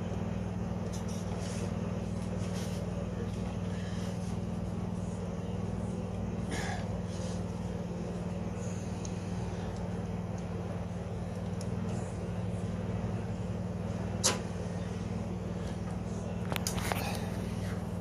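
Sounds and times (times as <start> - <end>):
snowblower engine running: 0.0 - 18.0.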